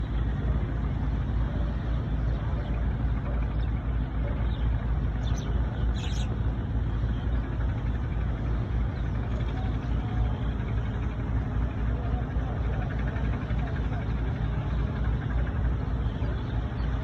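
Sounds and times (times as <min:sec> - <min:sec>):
low boat engine rumble: 0:00.0 - 0:17.0.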